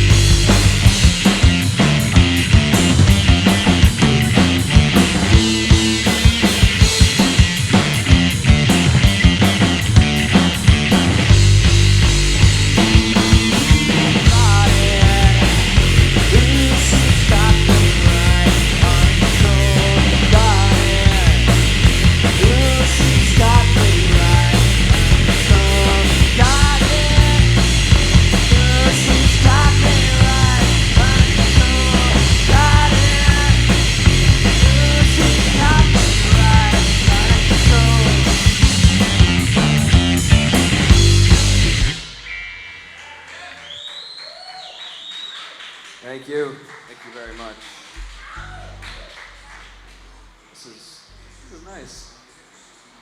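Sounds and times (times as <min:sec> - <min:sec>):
bass guitar: 0:00.0 - 0:42.9, 0:48.3 - 0:49.1
electric guitar lead line: 0:00.0 - 0:43.0
drums: 0:00.0 - 0:53.0.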